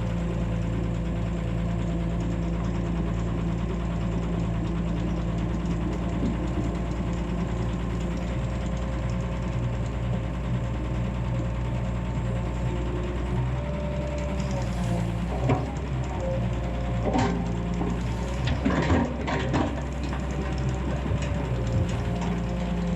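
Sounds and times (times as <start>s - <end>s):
excavator engine running: 0.0s - 22.9s.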